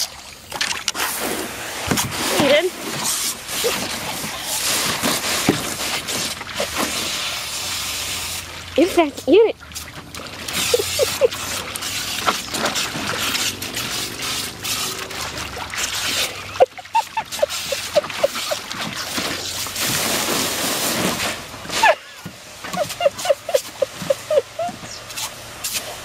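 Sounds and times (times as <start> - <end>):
dog splashing at water: 0.0 - 26.0
hose water spraying into pool: 0.0 - 26.0.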